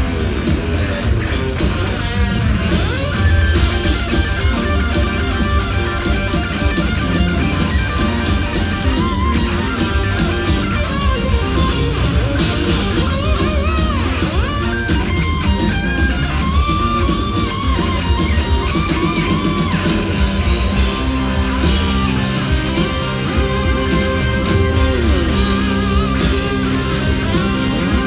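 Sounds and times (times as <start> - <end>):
electric guitar lead with bent notes: 0.0 - 28.0
live rock band playing: 0.0 - 28.0.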